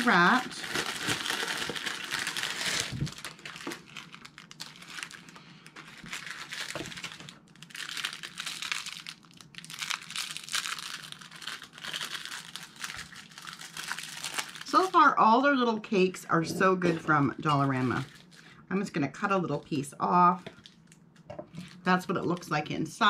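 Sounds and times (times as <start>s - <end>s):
plastic wrapper crinkling: 0.0s - 15.2s, 17.4s - 18.6s, 20.4s - 22.5s.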